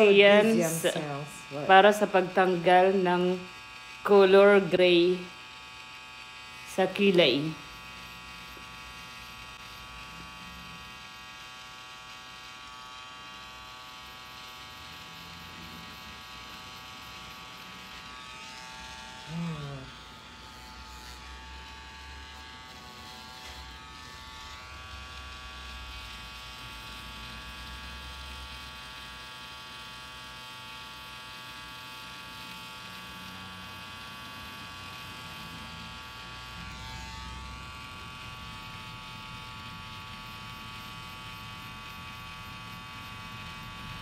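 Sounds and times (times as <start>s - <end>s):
tattoo pen buzzing: 0.0s - 44.0s.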